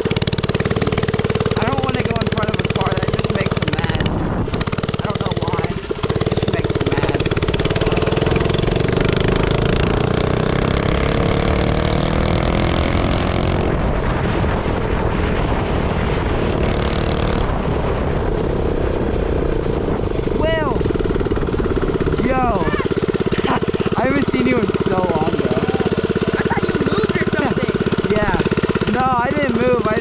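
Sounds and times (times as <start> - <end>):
minibike engine with loud exhaust: 0.0 - 30.0.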